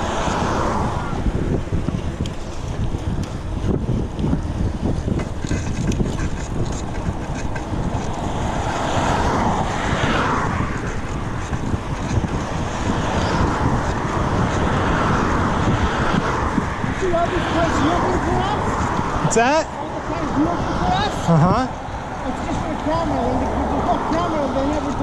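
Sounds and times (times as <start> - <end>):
passing car tyre noise: 0.0 - 25.0
wind buffeting microphone: 0.0 - 25.0.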